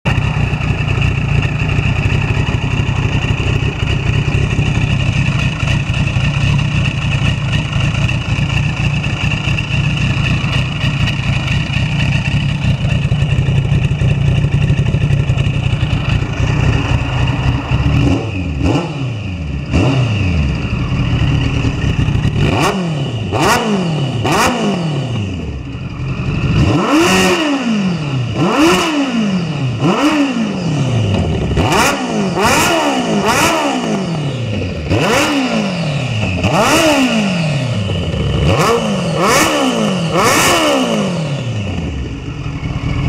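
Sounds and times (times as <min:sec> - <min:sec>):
motorcycle engine revving: 0:00.1 - 0:43.0.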